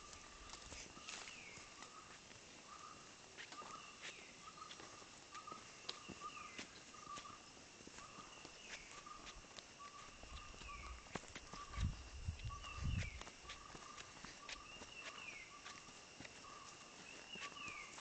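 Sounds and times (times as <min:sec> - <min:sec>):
footsteps on trail: 0:00.0 - 0:18.0.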